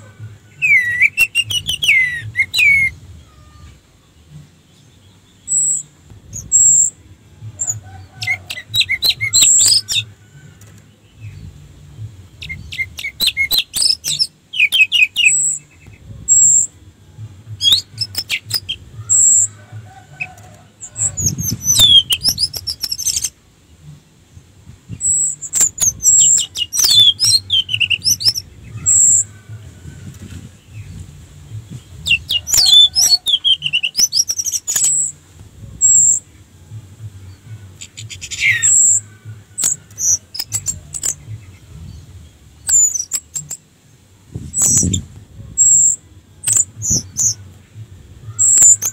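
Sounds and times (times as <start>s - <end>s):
bird singing and twittering: 0.0s - 48.9s.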